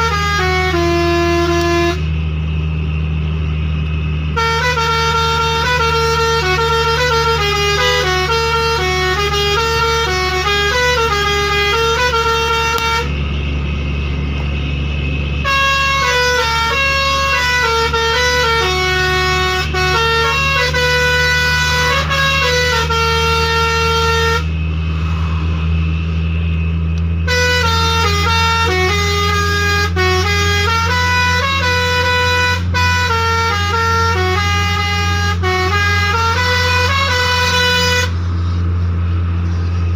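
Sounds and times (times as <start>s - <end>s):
musical air horn melody: 0.0s - 2.2s, 4.2s - 24.6s, 27.0s - 38.2s
steady low hum: 0.0s - 39.9s.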